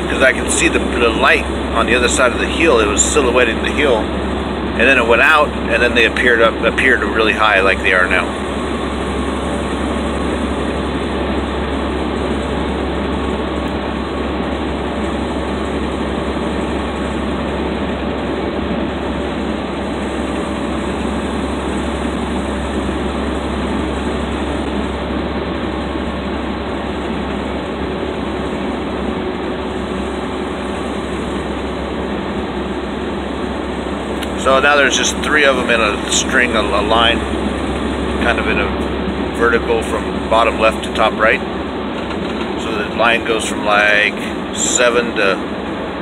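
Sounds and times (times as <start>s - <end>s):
road and engine noise in car cabin: 0.0s - 46.0s.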